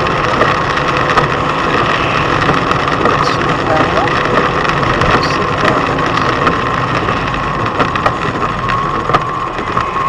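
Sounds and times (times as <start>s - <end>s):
car driving on road: 0.0s - 10.0s
sharp clicks and cracks: 0.0s - 10.0s.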